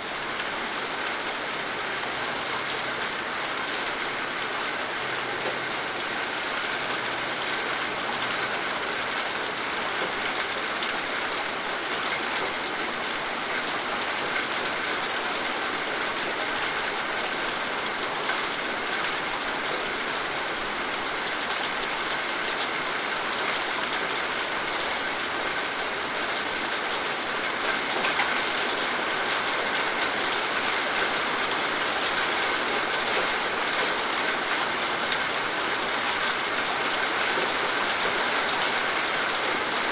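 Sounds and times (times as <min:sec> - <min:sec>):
rain pattering: 0:01.9 - 0:39.9.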